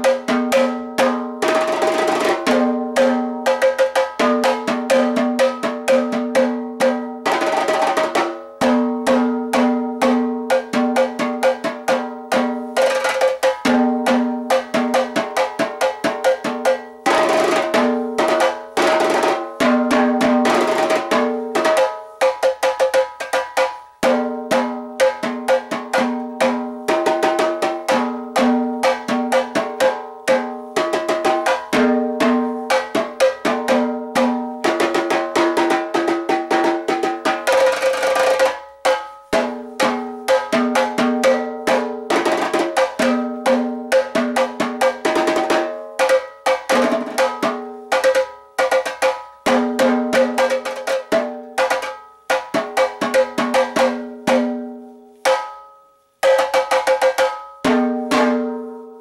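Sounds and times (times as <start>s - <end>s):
stick drumming on tuned drums: 0.0s - 59.0s.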